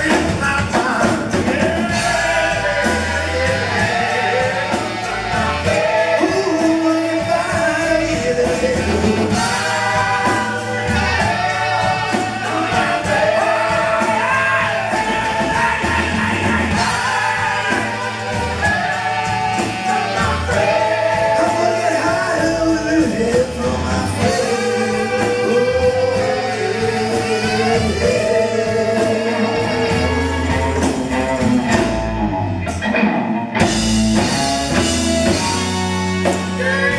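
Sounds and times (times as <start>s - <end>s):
lead singer singing: 0.0s - 31.8s, 34.7s - 36.9s
rock band playing: 0.0s - 36.9s
backing chorus singing: 1.2s - 32.0s, 33.7s - 36.9s.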